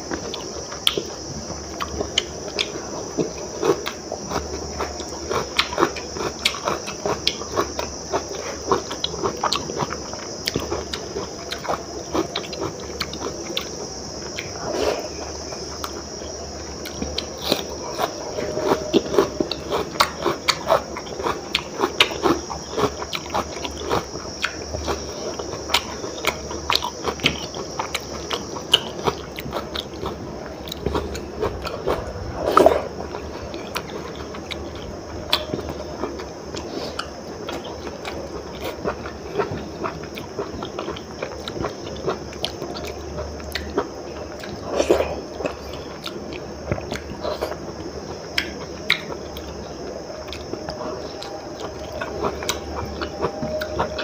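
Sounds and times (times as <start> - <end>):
steady high drone: 0.0 - 54.0
mouth smacks and chewing: 3.8 - 16.1, 16.8 - 54.0.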